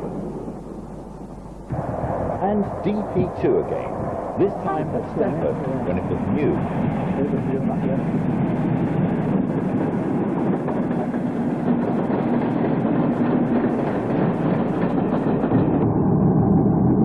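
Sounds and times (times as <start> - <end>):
rail noise: 0.0 - 16.1
train rumbling: 0.0 - 17.0.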